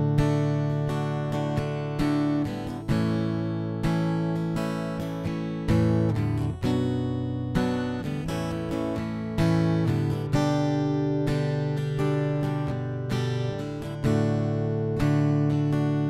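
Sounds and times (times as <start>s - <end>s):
fingerstyle acoustic guitar: 0.0s - 16.0s.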